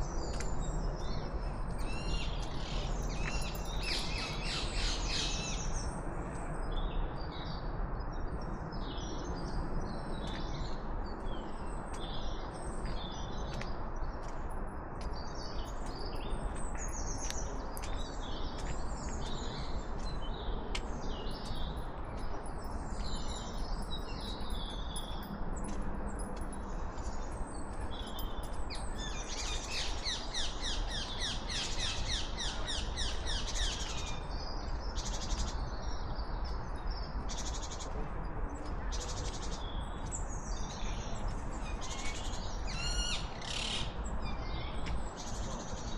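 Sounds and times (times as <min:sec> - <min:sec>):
songbirds singing and calling: 0:00.0 - 0:45.9.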